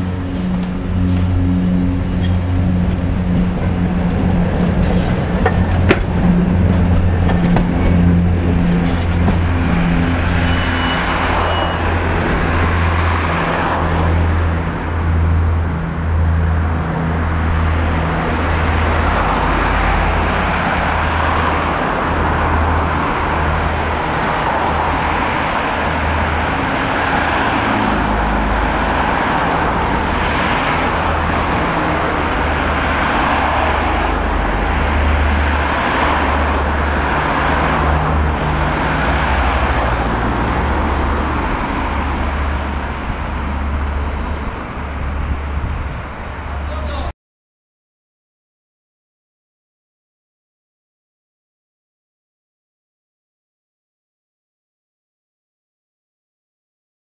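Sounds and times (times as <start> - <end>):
road traffic: 0.0 - 47.1
tram pulsing low hum: 0.0 - 47.1.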